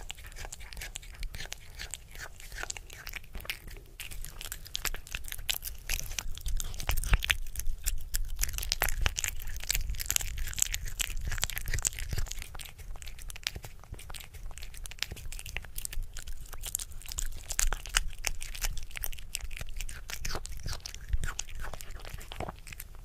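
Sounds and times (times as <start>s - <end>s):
kitten chewing wetly: 0.0s - 23.0s.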